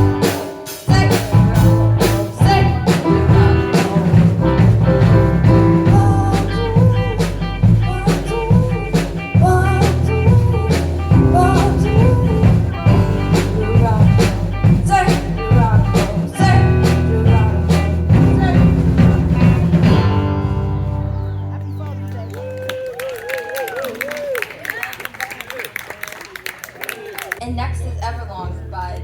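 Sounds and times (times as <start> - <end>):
live pop-rock band playing: 0.0 - 24.3.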